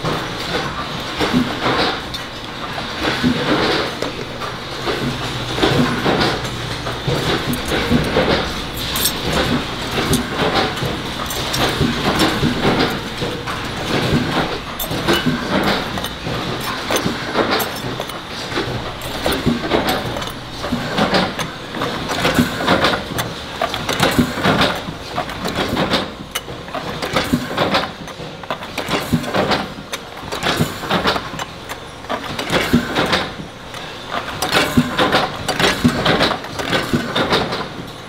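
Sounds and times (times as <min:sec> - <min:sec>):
assembly line machinery running: 0:00.0 - 0:38.0
metallic clanks and clicks: 0:00.4 - 0:37.8.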